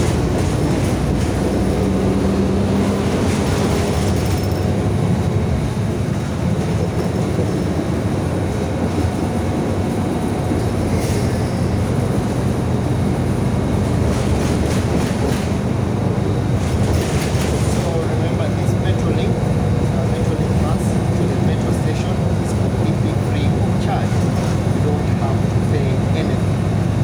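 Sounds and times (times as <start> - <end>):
bus road noise rumble: 0.0 - 27.0.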